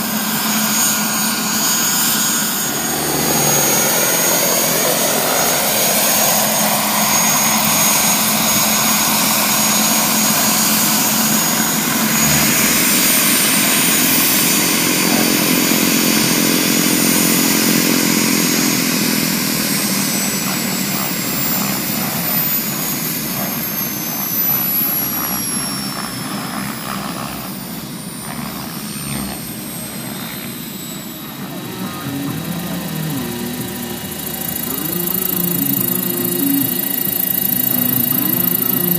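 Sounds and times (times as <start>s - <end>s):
helicopter rotor noise: 0.0s - 38.9s
model helicopter high whine: 0.0s - 38.9s.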